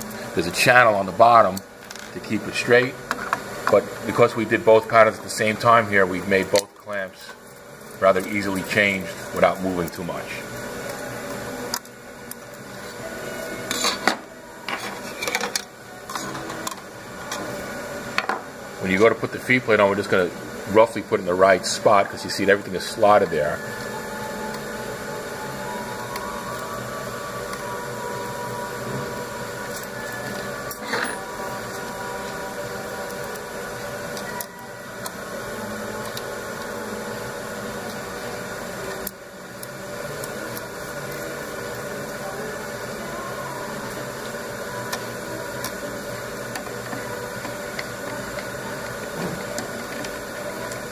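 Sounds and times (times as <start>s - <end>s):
shop machinery hum: 0.0s - 50.9s.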